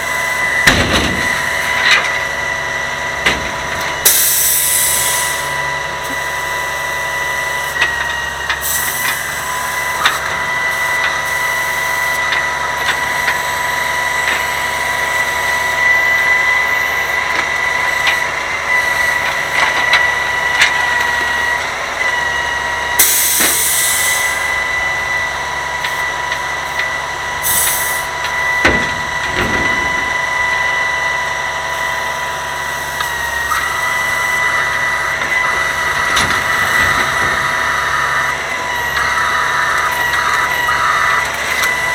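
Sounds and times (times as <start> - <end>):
garbage truck high whine: 0.0 - 41.9.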